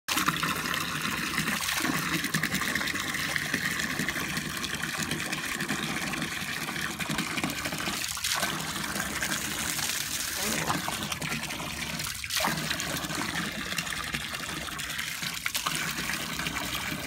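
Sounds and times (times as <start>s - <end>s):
water gushing from a hose: 0.1s - 17.0s
water splashing into a plastic tub: 0.1s - 17.0s.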